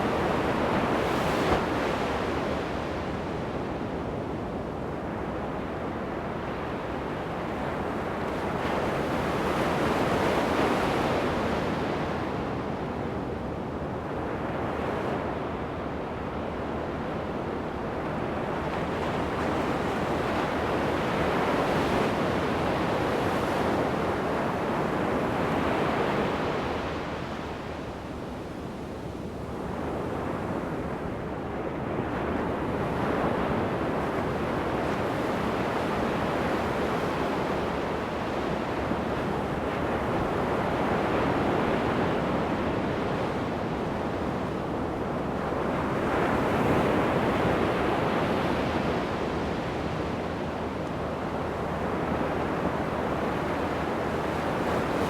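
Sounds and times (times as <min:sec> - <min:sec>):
ocean surf on sandy beach: 0:00.0 - 0:28.1, 0:28.7 - 0:55.0.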